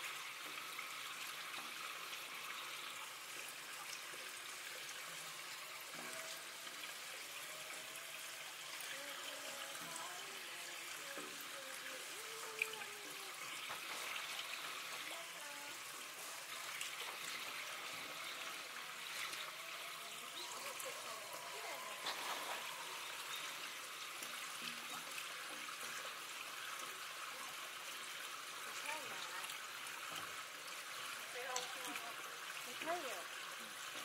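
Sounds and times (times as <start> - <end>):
trickle of running water: 0.0 - 34.0.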